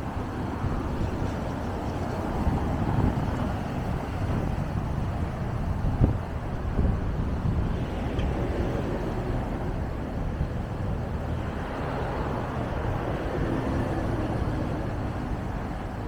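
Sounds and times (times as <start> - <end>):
bus diesel engine rumble: 0.0 - 16.0
road noise: 0.0 - 16.0.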